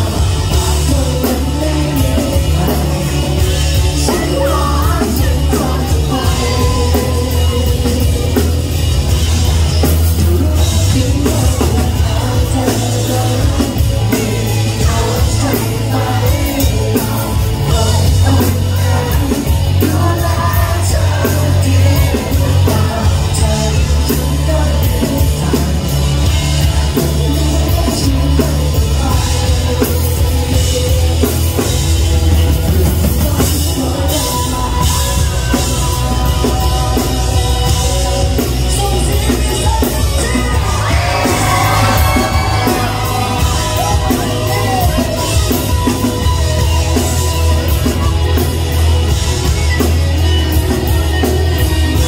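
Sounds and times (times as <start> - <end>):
drum kit and bass: 0.0 - 52.0
person singing: 0.0 - 52.0.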